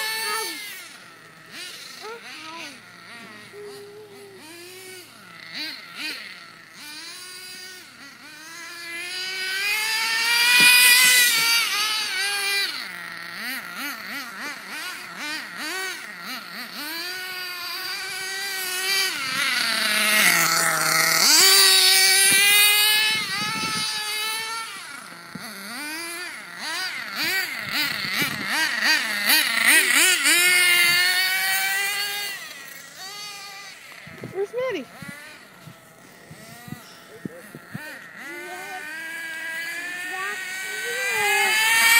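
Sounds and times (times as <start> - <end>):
rc buggy nitro engine revving: 0.0 - 41.9.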